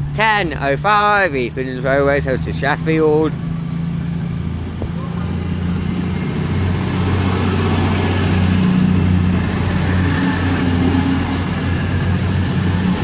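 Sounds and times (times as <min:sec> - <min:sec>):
high whine rising in pitch: 0:00.0 - 0:13.0
train engines humming: 0:00.0 - 0:13.0.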